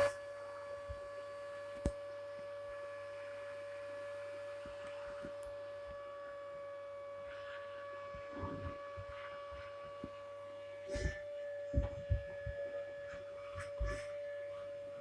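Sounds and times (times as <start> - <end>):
vacuum cleaner motor whining: 0.0 - 15.0.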